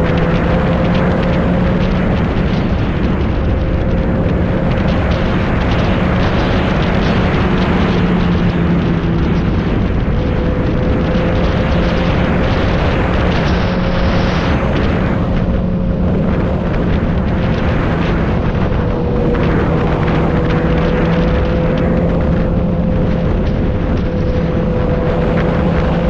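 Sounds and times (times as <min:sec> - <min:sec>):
motorcycle engine: 0:00.0 - 0:26.0
wind noise on microphone: 0:00.0 - 0:26.0.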